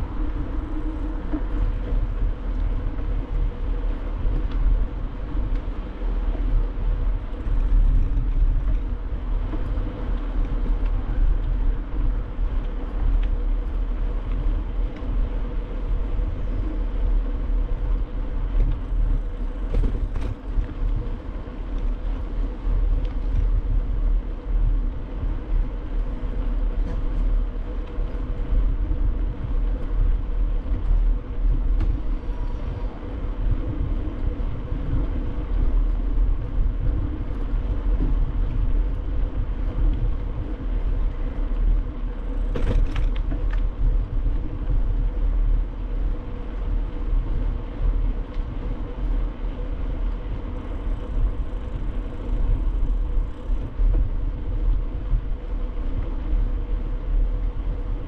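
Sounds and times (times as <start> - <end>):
bicycle tyres rumbling on asphalt: 0.0 - 58.0
faint steady hum: 0.0 - 58.0.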